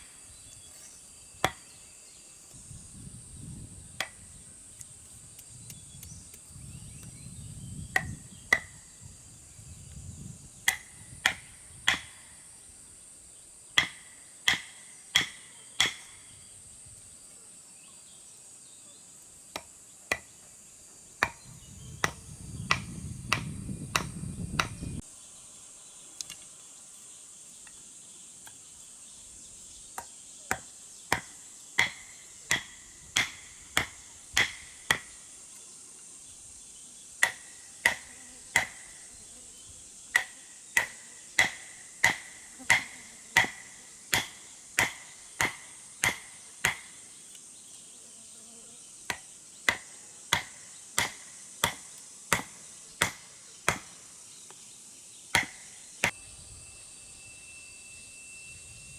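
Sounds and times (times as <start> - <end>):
insects buzzing: 0.0 - 58.9.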